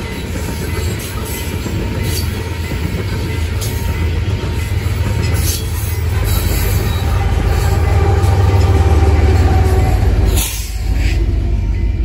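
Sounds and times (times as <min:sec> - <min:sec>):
train wheel clicks: 0:00.0 - 0:11.4
train rumbling past: 0:00.0 - 0:12.0.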